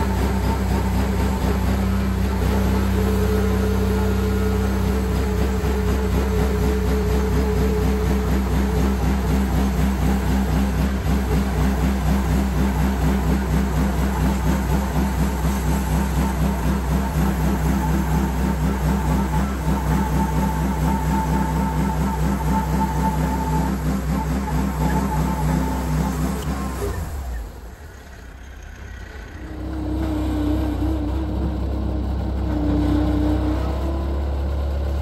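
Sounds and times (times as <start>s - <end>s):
sawmill engine droning under load: 0.0s - 35.0s.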